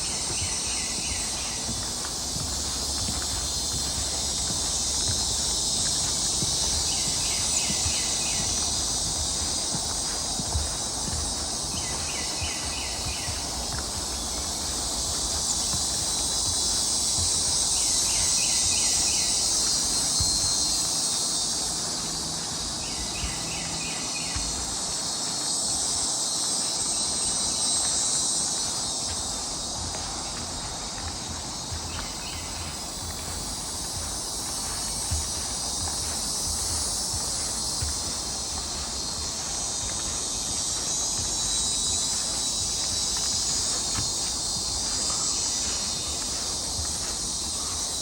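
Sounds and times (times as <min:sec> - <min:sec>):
insect chorus droning: 0:00.0 - 0:48.0.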